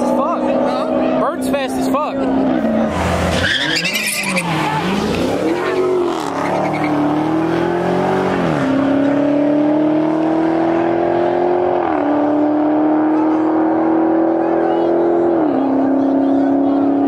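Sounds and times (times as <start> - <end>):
car engines accelerating hard: 0.0 - 17.0.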